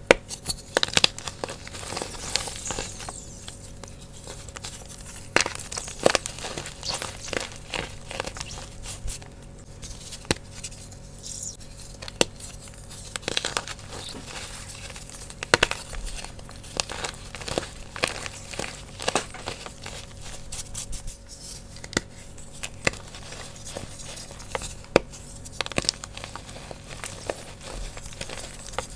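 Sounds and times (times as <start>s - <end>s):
hands crumbling wet chalk: 0.1s - 11.1s, 11.9s - 28.9s.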